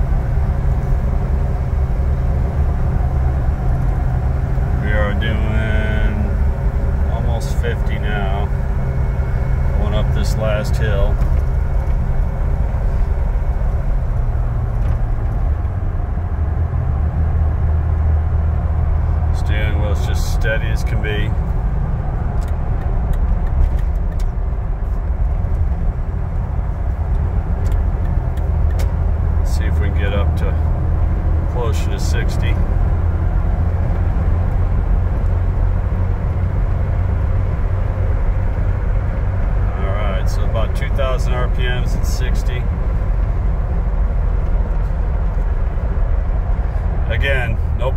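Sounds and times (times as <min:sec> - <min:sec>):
car engine drone in cab: 0:00.0 - 0:47.9
tyre and road noise: 0:00.0 - 0:47.9.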